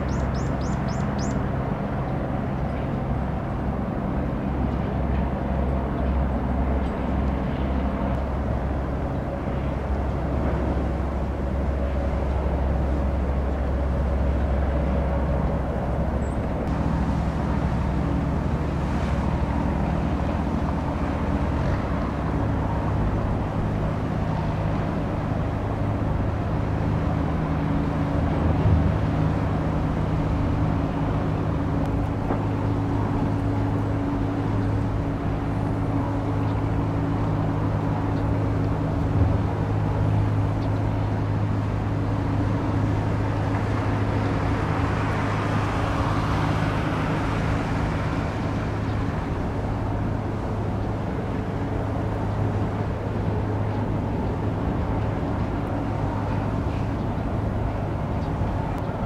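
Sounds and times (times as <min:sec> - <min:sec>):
ship diesel engine drone: 0:00.0 - 0:59.0.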